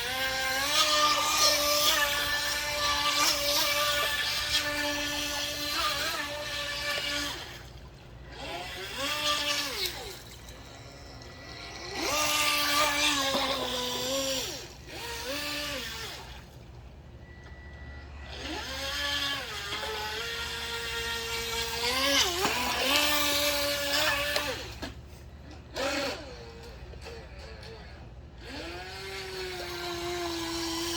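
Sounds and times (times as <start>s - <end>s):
model speedboat motor whining: 0.0s - 30.9s.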